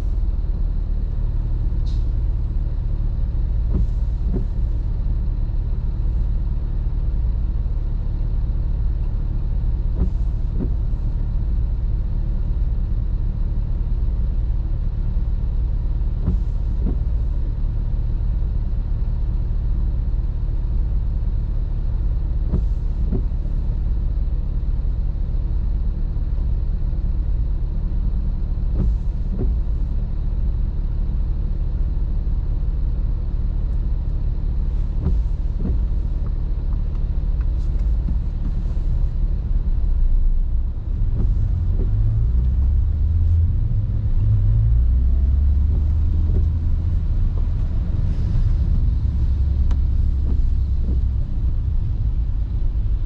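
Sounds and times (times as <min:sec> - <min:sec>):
windscreen wipers swishing: 0:00.0 - 0:24.8, 0:25.4 - 0:53.0
car engine idling: 0:00.0 - 0:53.0.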